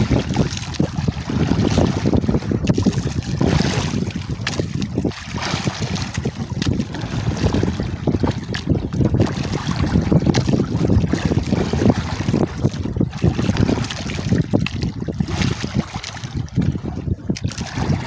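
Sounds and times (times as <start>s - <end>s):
water sloshing against hull: 0.0s - 18.0s
wind buffeting microphone: 0.0s - 18.0s.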